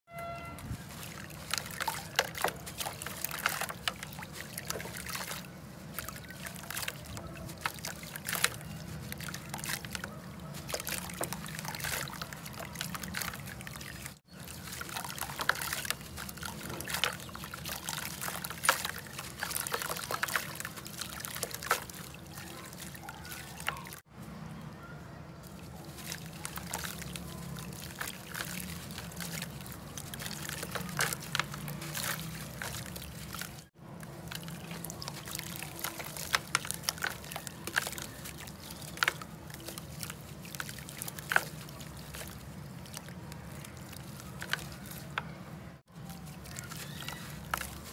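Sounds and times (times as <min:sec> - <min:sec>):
small water splashes: 0:00.2 - 0:24.7, 0:25.3 - 0:47.9
hands sloshing muddy water: 0:00.5 - 0:24.1, 0:25.4 - 0:47.9.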